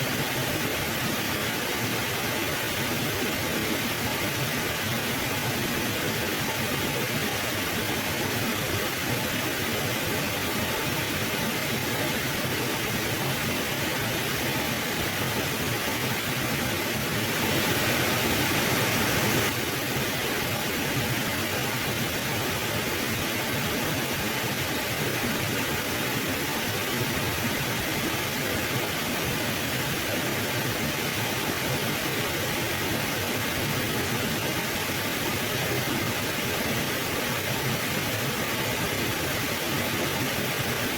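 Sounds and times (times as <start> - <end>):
river water rushing: 0.1 - 40.9.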